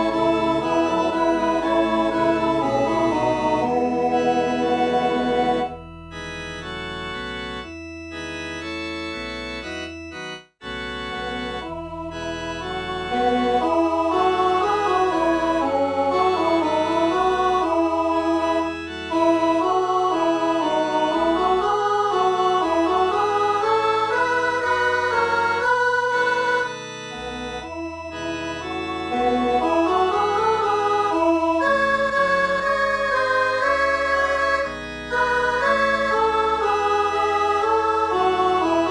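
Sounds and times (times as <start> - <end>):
electronic organ playing hymn: 0.0 - 38.9.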